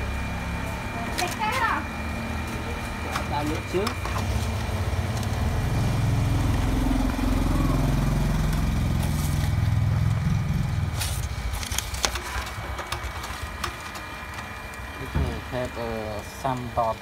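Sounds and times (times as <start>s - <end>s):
laser printer printing: 0.0s - 17.0s.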